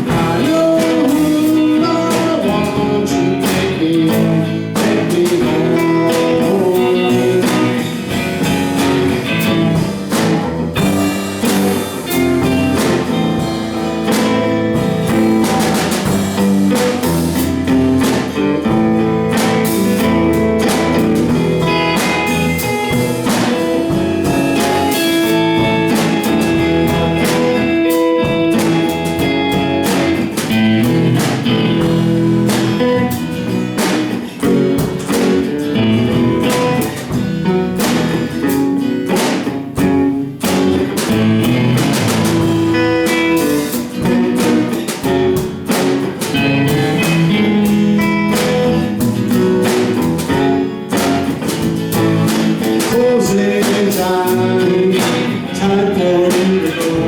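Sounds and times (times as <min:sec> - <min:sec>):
drum kit beat: 0:00.0 - 0:57.0
guitars: 0:00.0 - 0:57.0.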